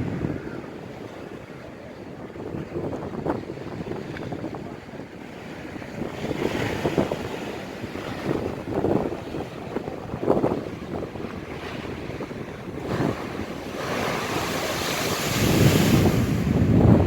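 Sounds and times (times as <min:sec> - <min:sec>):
storm waves surging on shore: 0:00.0 - 0:17.0
wind buffeting microphone: 0:00.0 - 0:17.0.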